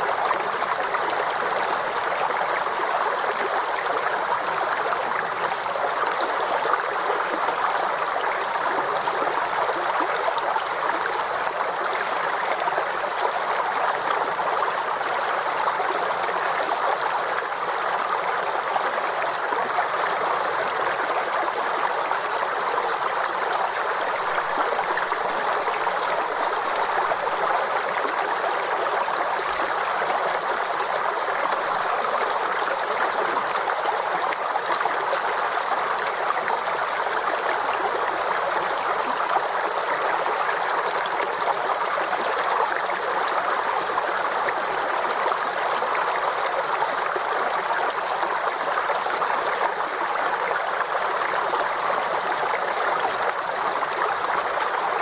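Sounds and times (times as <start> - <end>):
stream gurgling over rocks: 0.0 - 55.0.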